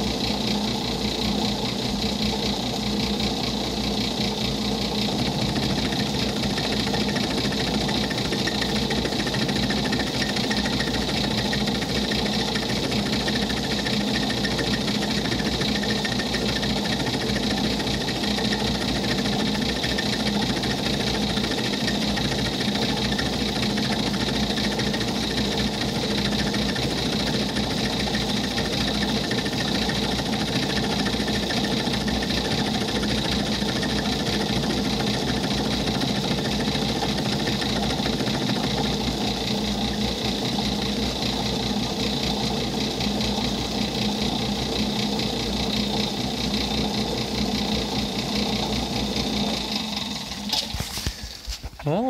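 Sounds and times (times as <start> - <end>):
lathe running: 0.0 - 51.6
end mill cutting metal: 4.2 - 50.8.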